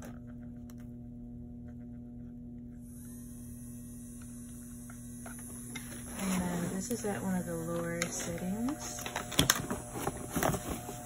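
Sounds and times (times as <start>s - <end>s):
electrical hum of control box: 0.0s - 11.0s.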